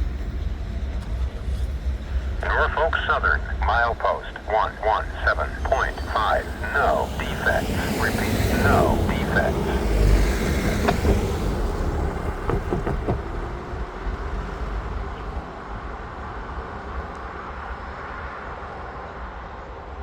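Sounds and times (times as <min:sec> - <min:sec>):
freight train rolling by: 0:00.0 - 0:20.0.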